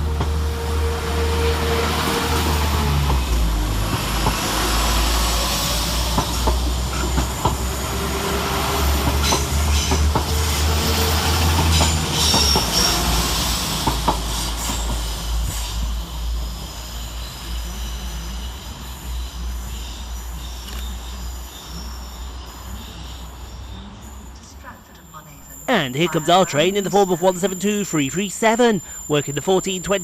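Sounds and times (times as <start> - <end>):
diesel train engines running: 0.0 - 30.0.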